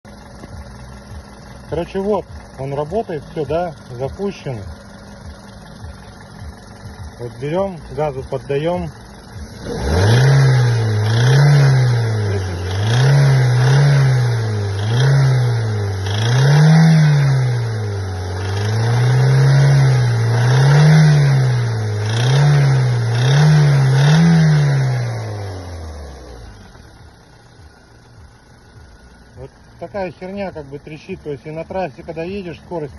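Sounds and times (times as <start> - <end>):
car engine revving: 0.1 - 32.9.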